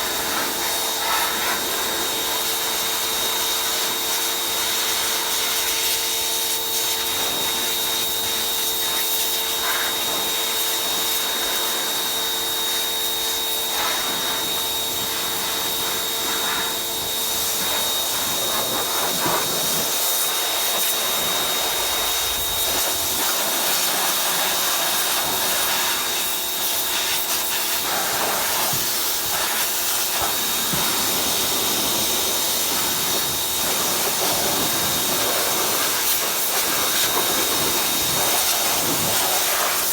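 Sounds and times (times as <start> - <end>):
pressure washer spraying: 0.0 - 12.1, 12.7 - 39.9
motor whine: 6.2 - 39.7.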